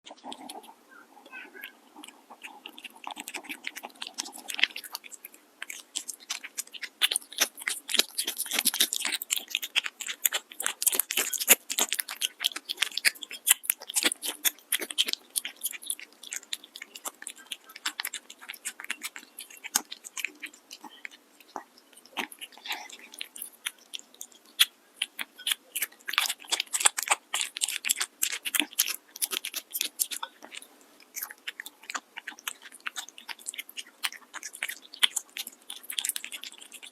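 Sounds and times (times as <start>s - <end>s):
cat crunching food: 0.1s - 36.9s.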